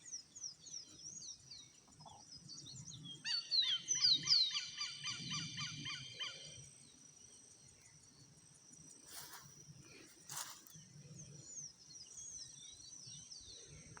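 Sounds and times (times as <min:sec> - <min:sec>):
faint high-pitched hum: 0:00.0 - 0:14.0.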